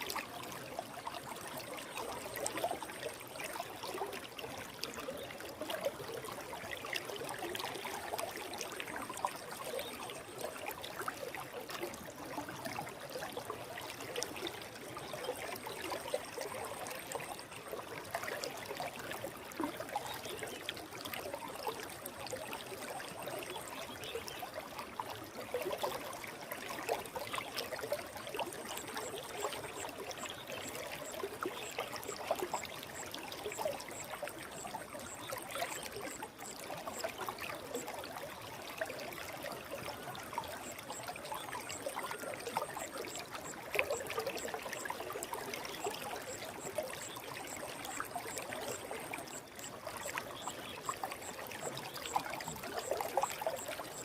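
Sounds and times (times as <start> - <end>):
forest stream flowing: 0.0 - 54.0.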